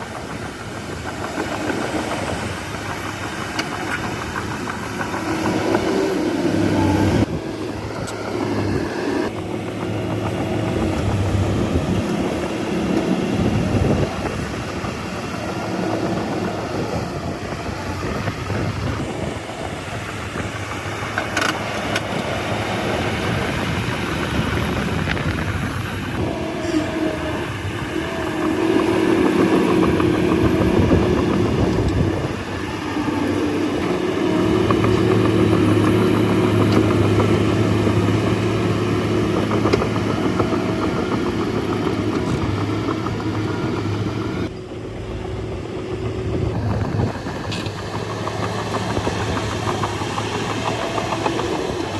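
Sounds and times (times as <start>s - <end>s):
bulldozer diesel engine: 0.0s - 51.9s.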